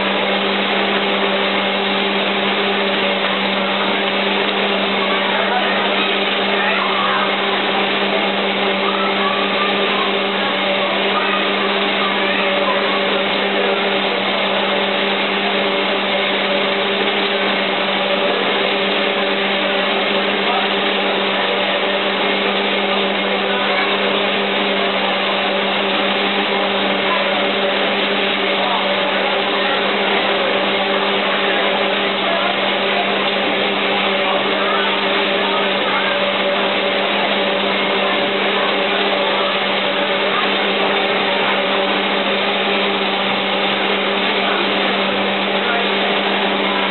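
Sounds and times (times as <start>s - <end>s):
machine motor humming: 0.0s - 46.9s.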